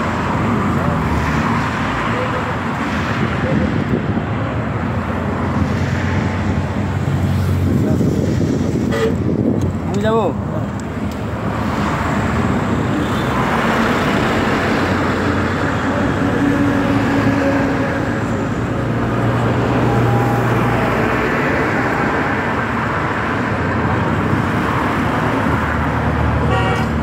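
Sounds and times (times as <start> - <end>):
passing traffic: 0.0 - 27.0.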